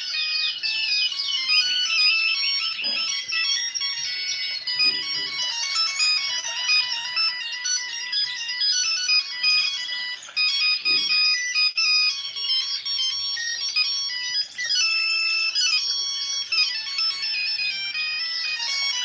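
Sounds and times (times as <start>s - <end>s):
phone ringtone melody: 0.0s - 19.0s.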